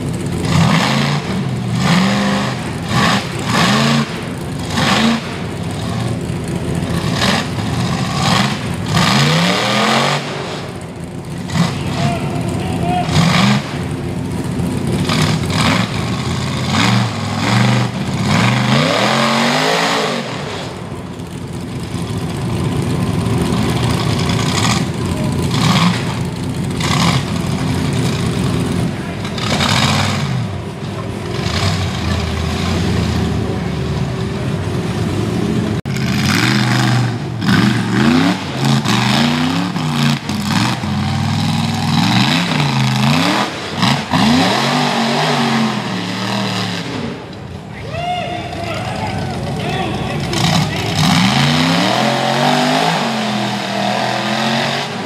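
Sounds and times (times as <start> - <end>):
buggy engine revving hard: 0.0 - 47.6, 48.4 - 55.0.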